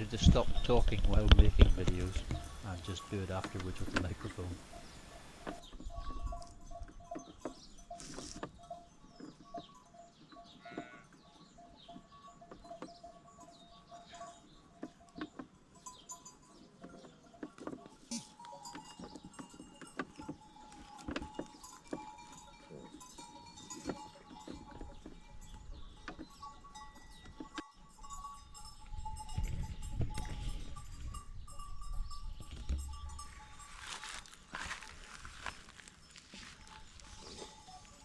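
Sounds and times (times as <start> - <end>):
sheep bells clanking: 0.0 - 38.0.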